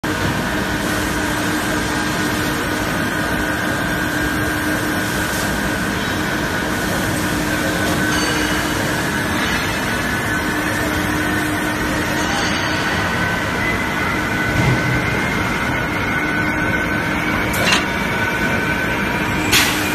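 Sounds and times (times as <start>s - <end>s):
machinery low hum: 0.0s - 19.9s
machinery high whine: 0.1s - 19.9s.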